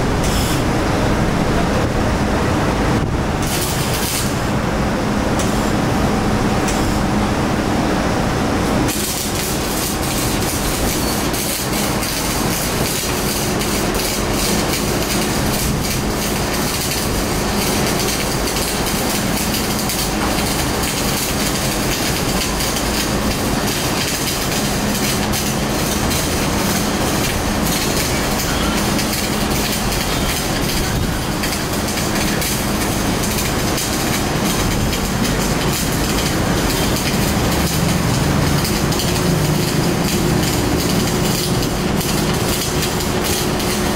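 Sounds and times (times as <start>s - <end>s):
welding arc crackling: 2.7s - 43.9s.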